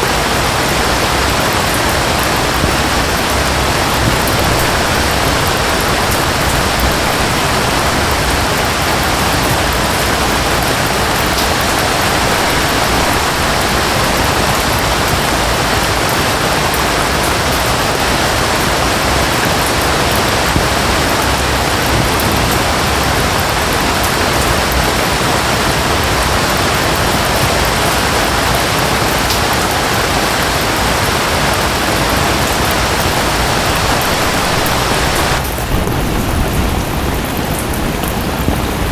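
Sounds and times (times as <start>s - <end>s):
waterfall rushing: 0.0s - 35.8s
steady rain: 0.0s - 38.9s.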